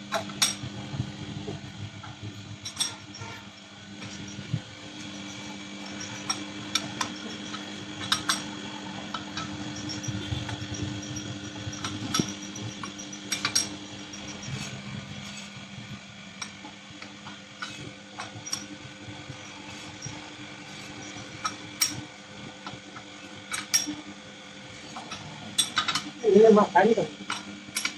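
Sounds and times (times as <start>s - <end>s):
lathe motor hum: 0.0s - 27.9s.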